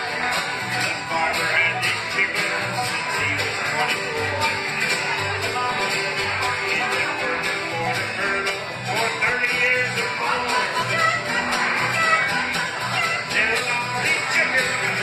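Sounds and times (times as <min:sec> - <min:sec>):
acoustic guitar strumming: 0:00.0 - 0:15.0
banjo: 0:00.0 - 0:15.0
mandolin picking: 0:00.0 - 0:15.0.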